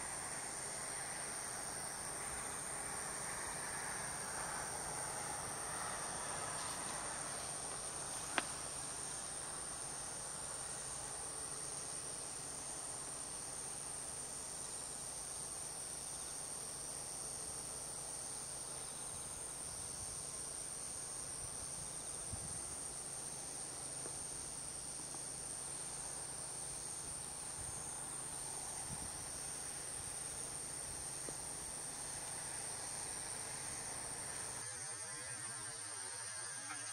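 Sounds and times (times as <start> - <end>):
insects chirping chorus: 0.0 - 36.9.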